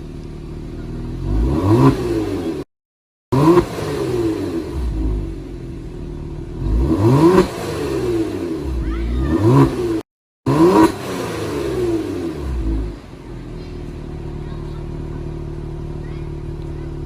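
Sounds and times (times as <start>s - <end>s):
car engine revving: 0.0s - 2.7s, 3.3s - 17.0s.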